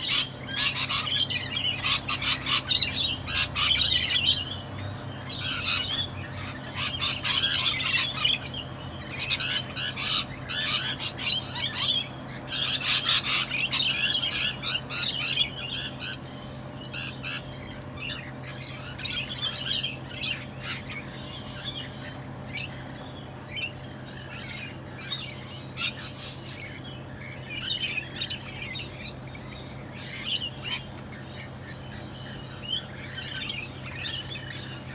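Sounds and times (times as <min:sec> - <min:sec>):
parrots squawking and chattering: 0:00.0 - 0:34.9.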